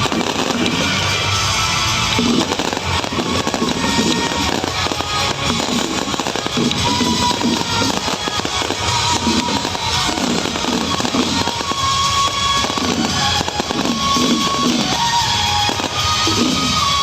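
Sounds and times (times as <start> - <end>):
fireworks crackling: 0.0 - 17.0
loud music: 0.0 - 17.0.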